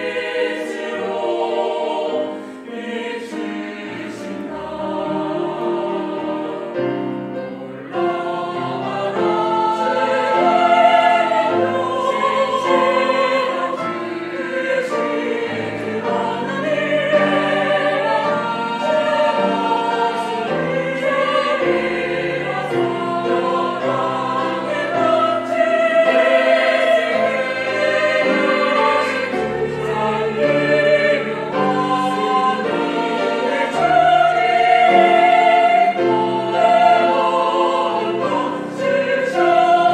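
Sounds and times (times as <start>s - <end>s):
cello: 0.0s - 39.9s
choir singing a hymn: 0.0s - 39.9s
piano: 0.0s - 39.9s
violin: 0.0s - 39.9s.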